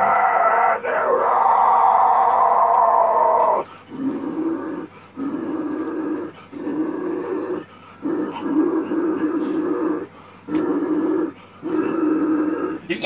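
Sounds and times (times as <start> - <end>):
man growling vocals: 0.0 - 13.0.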